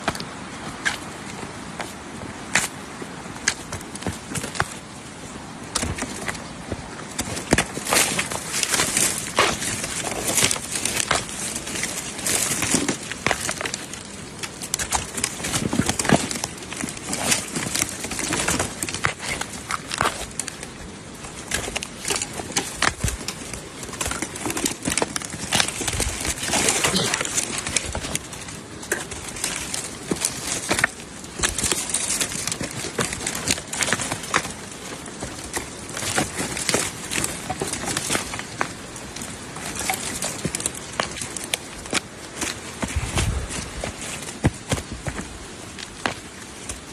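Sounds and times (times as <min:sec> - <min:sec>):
crackling and snapping: 0:00.0 - 0:46.9
scraping and shuffling: 0:05.8 - 0:46.9.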